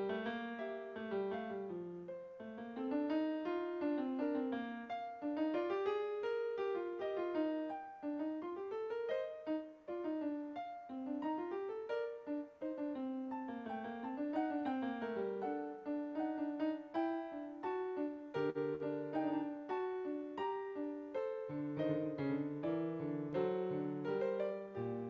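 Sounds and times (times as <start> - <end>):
piano melody: 0.0 - 25.0.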